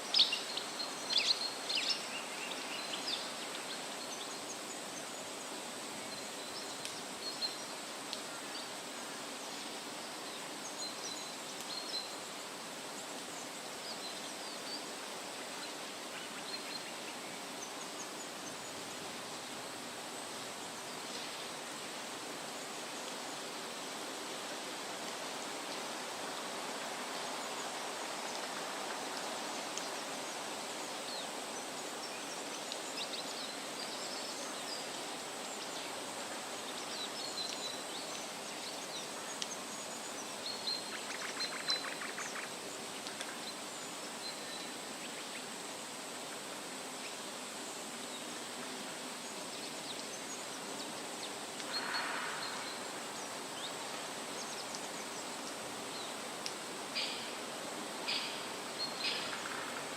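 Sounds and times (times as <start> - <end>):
wind rustling through trees: 0.0 - 59.9.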